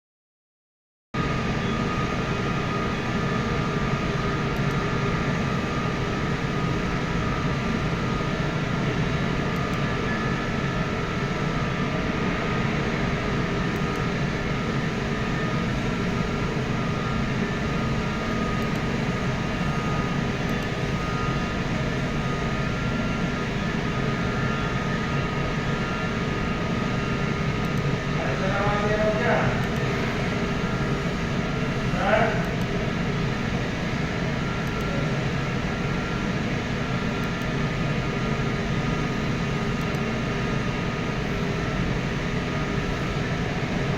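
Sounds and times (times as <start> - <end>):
furnace mechanical noise: 1.2 - 43.9.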